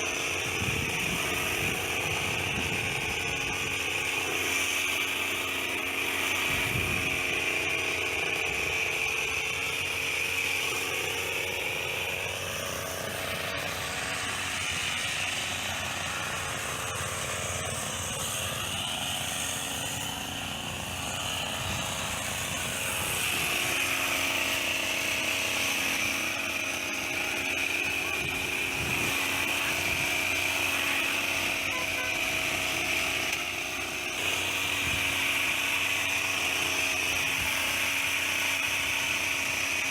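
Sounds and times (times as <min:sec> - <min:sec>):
hedge trimmer engine running: 0:00.0 - 0:39.9.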